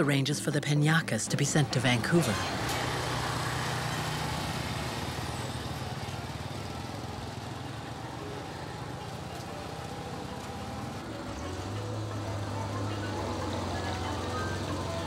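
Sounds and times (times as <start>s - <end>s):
small engine idling: 1.6s - 15.0s.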